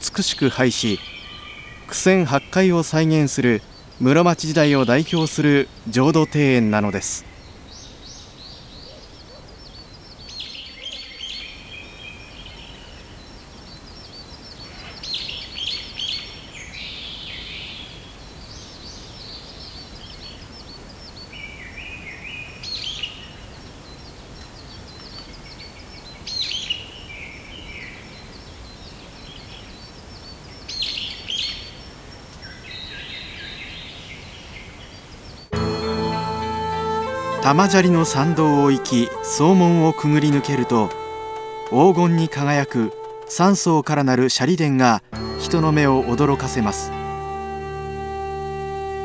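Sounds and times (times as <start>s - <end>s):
birds chirping and singing: 0.0s - 49.0s
faint steady hiss: 0.0s - 49.0s.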